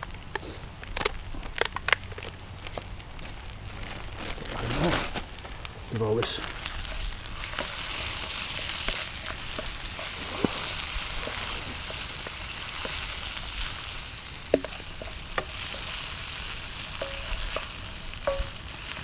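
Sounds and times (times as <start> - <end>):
sharp pops and ticks: 0.0 - 4.2, 5.2 - 19.0
onions sizzling in a pan: 0.0 - 19.0.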